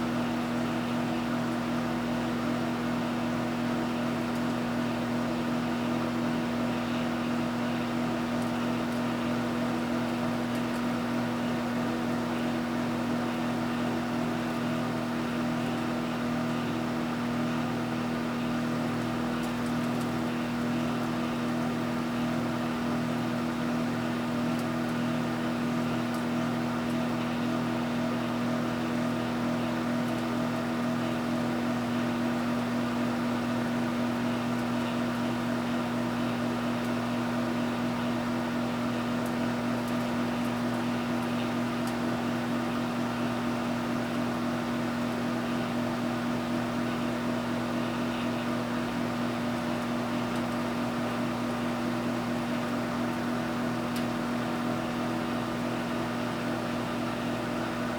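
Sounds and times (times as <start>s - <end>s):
microwave oven humming: 0.0s - 57.9s.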